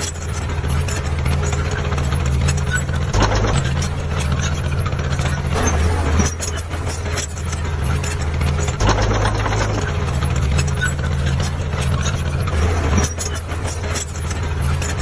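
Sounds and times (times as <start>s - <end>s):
heavy diesel engine running: 0.0s - 15.0s
metallic rattling and clicks: 0.0s - 15.0s.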